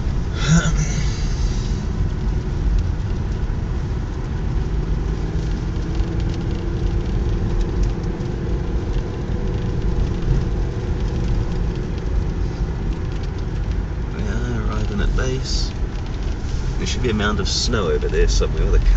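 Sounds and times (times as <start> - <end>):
car engine and tyre rumble: 0.0 - 18.9.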